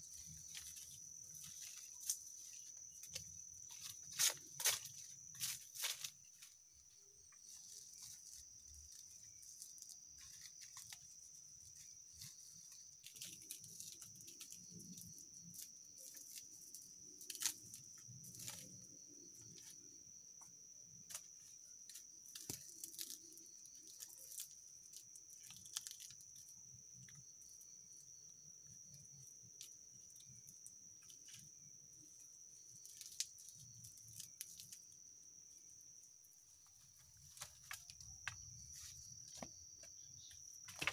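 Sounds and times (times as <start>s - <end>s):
insects calling: 0.0s - 40.9s.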